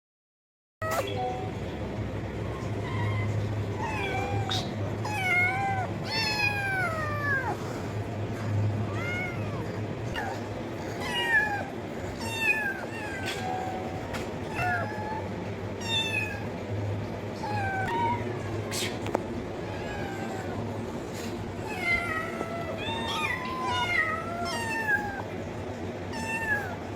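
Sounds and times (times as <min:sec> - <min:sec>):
cats meowing: 0:00.8 - 0:01.6, 0:02.3 - 0:26.9
steady low hum: 0:00.8 - 0:26.9.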